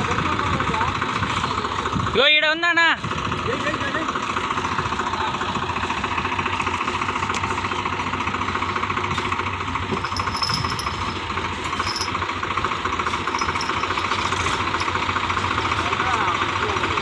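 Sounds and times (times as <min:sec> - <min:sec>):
tractor diesel engine knocking: 0:00.0 - 0:17.0.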